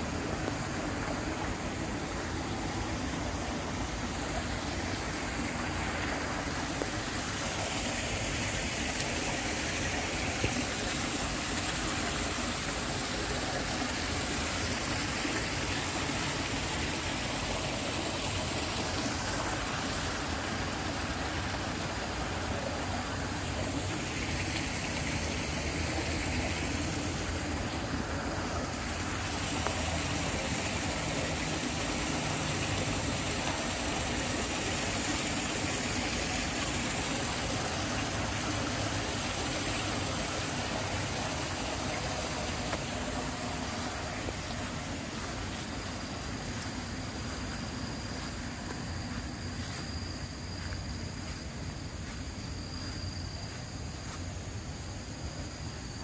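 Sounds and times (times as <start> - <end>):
water rushing along a channel: 0.0 - 56.0.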